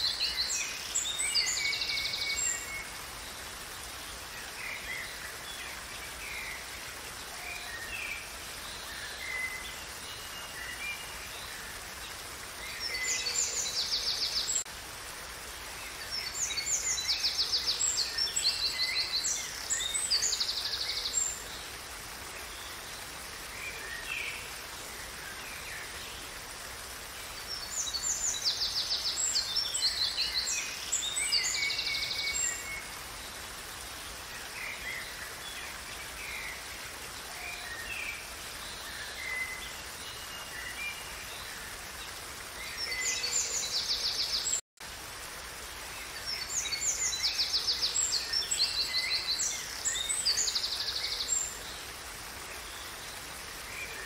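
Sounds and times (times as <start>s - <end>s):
flowing water hiss: 0.0s - 54.0s.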